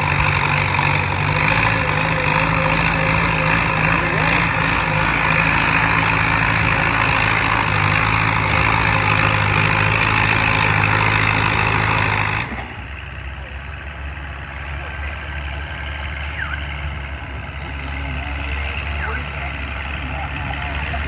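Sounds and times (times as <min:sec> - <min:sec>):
tractor engine running hard: 0:00.0 - 0:21.0.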